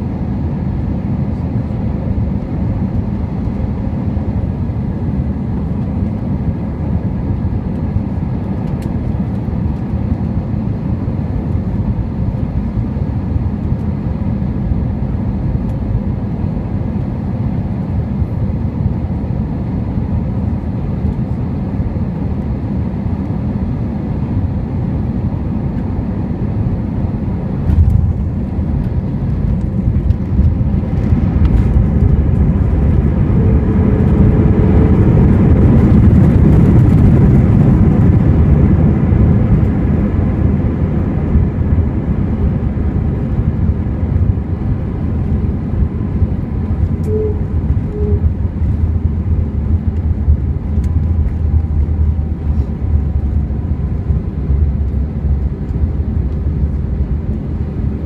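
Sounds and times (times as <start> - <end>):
engine and airflow rumble: 0.0 - 58.0.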